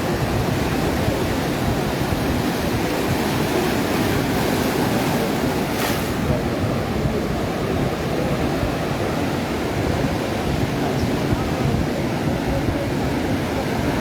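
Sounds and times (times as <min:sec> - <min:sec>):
surf waves breaking on beach: 0:00.0 - 0:14.0.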